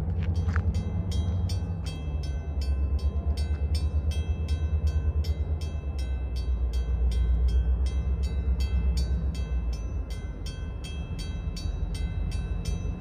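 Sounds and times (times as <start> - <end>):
low rumble of train: 0.0 - 13.0
railroad bell ringing: 0.0 - 13.0.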